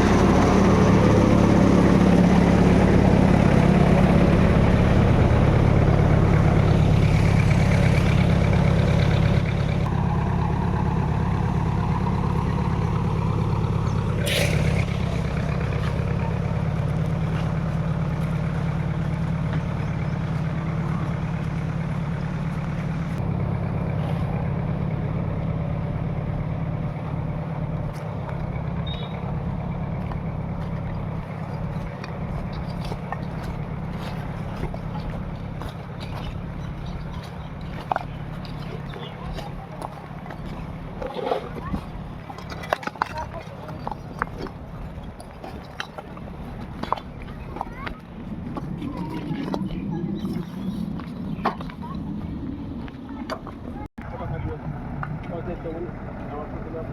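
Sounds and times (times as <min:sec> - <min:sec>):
road roller diesel engine: 0:00.0 - 0:56.9.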